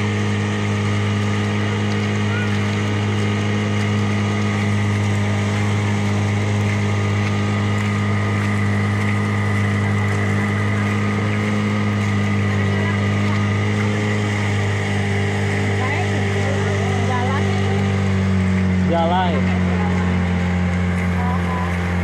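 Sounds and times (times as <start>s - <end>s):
boat engine running: 0.0s - 22.0s
water washing past hull: 0.0s - 22.0s.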